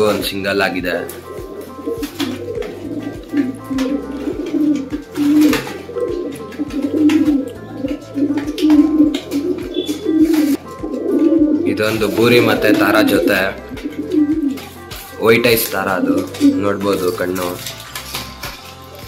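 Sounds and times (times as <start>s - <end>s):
pigeons cooing: 0.0s - 17.6s
background music with bass line: 0.0s - 19.0s.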